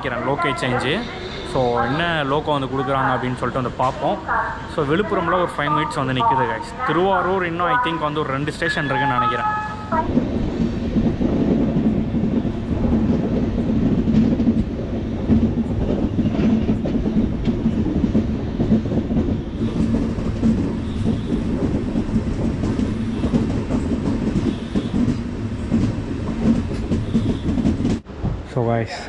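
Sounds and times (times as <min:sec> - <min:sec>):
train wheels on rails: 0:00.0 - 0:29.0.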